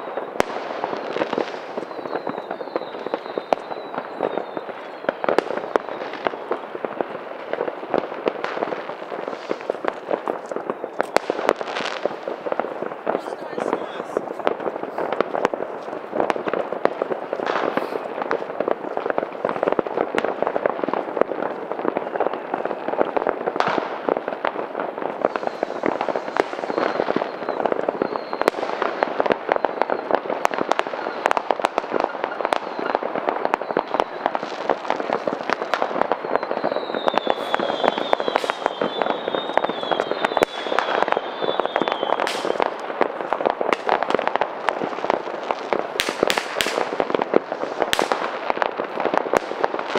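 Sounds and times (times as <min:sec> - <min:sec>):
fireworks crackling and banging: 0:00.0 - 0:49.9
whistling fireworks: 0:00.0 - 0:49.9.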